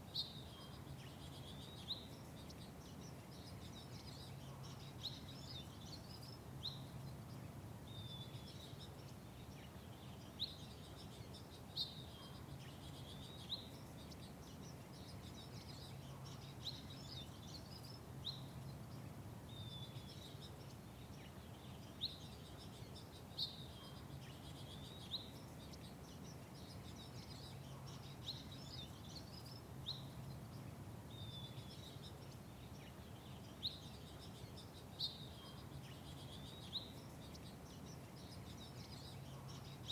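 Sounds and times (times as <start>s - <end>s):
low steady background hum: 0.0s - 39.9s
small songbirds chirping: 0.0s - 39.9s.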